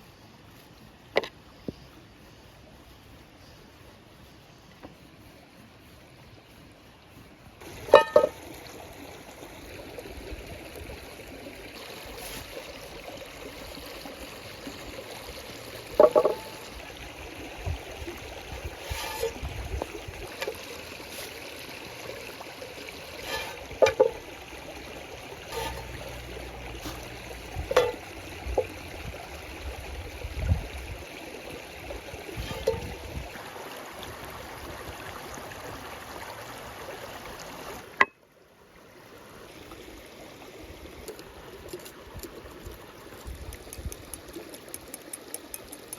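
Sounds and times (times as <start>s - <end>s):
running water: 0.0s - 45.9s.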